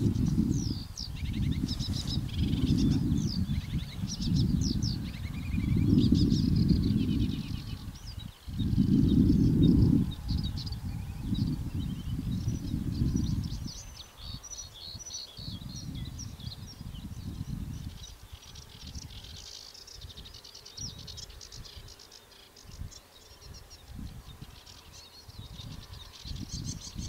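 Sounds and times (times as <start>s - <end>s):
songbirds chirping: 0.0s - 27.0s
wind rumbling on microphone: 0.0s - 27.0s.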